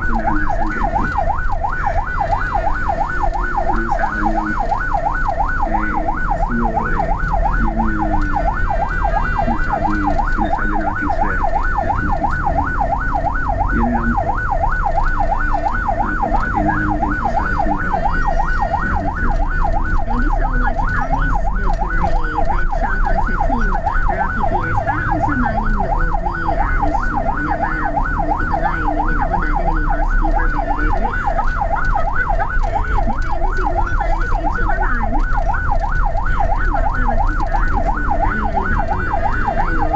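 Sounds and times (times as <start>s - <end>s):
ambulance siren yelping: 0.0s - 39.9s
engine and road rumble: 0.0s - 39.9s.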